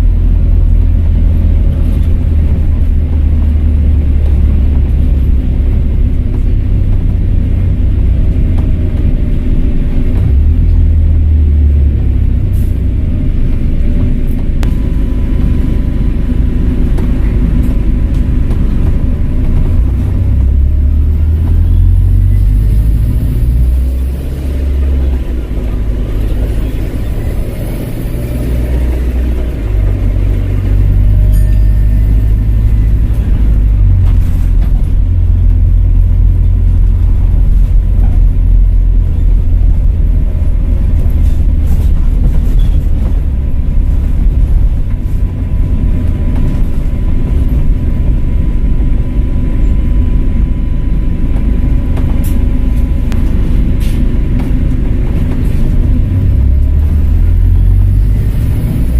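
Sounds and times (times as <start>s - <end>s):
bus diesel engine rumbling: 0.0s - 58.9s.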